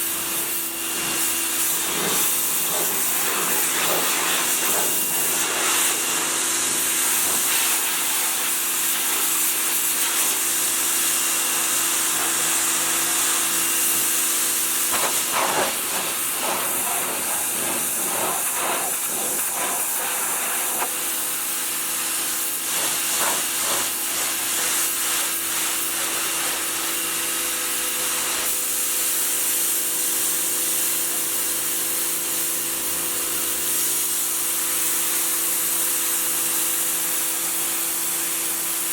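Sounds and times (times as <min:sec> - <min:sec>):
pump motor humming: 0:00.0 - 0:38.8
pressure washer spraying water: 0:00.0 - 0:38.9.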